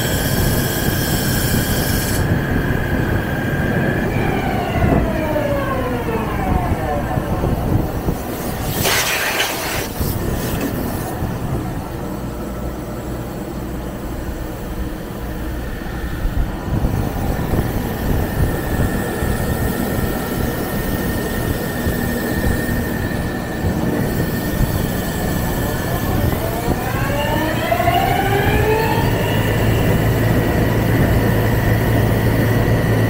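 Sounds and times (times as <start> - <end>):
lathe mechanical rumble: 0.0 - 33.0.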